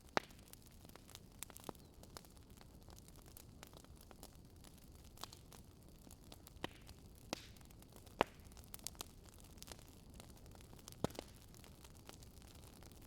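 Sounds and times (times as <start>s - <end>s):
fire popping and snapping: 0.0s - 13.0s.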